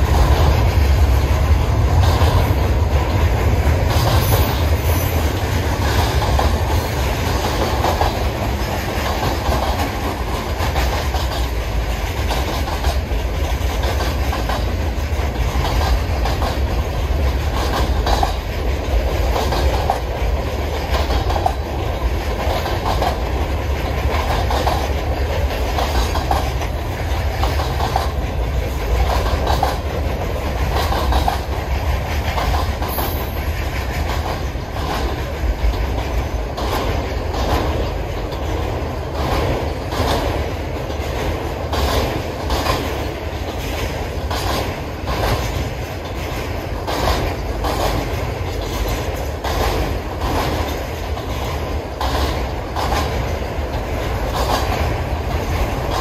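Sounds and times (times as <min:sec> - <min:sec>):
freight train rolling past: 0:00.0 - 0:56.0
wheels clacking over rail joints: 0:00.0 - 0:56.0.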